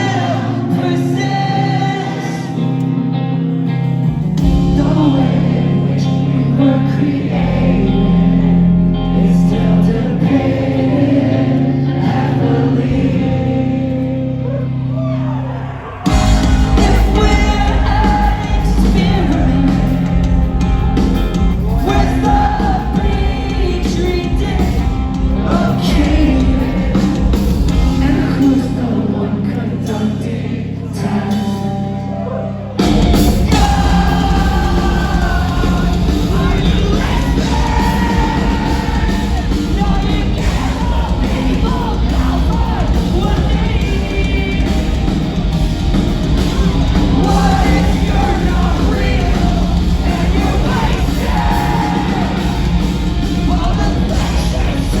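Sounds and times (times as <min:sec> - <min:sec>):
live rock band playing: 0:00.0 - 0:30.4, 0:31.0 - 0:55.0
person singing: 0:04.4 - 0:55.0.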